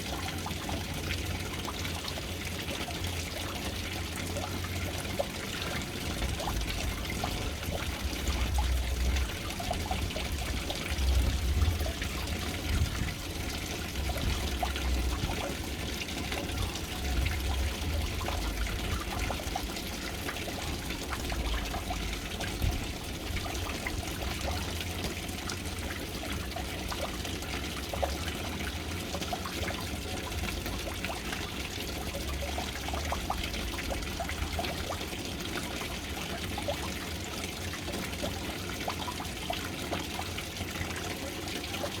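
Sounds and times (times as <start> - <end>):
water trickling into tank: 0.0 - 42.0.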